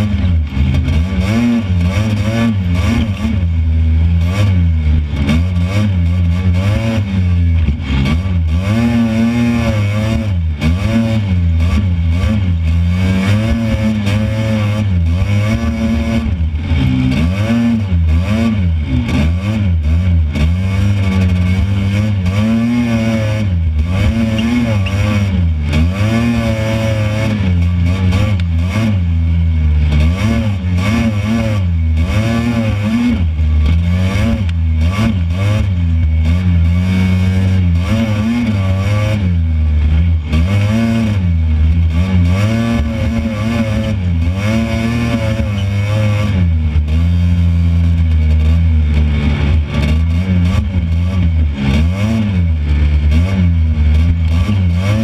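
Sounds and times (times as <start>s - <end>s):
buggy engine revving: 0.0s - 55.0s.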